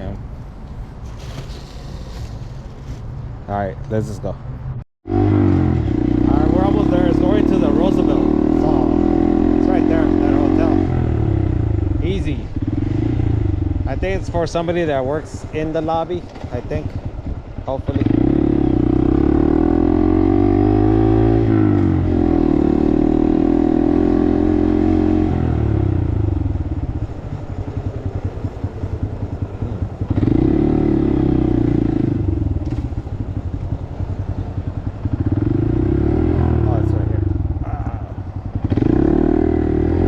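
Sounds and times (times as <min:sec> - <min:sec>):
motorcycle engine running: 0:05.1 - 0:40.0.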